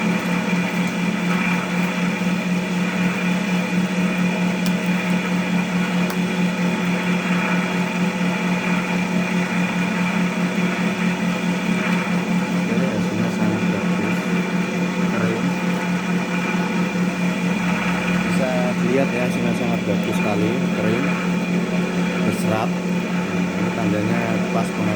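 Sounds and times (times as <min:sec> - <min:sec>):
cotton candy machine humming: 0:00.0 - 0:24.9.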